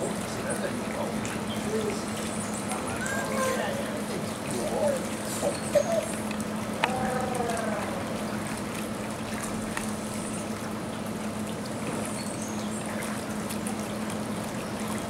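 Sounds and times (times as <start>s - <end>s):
pool water trickling: 0.0s - 15.0s.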